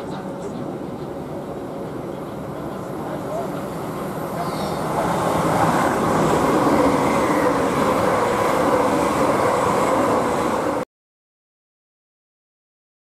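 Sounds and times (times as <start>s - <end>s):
train wheels rumbling on rails: 0.0s - 10.8s.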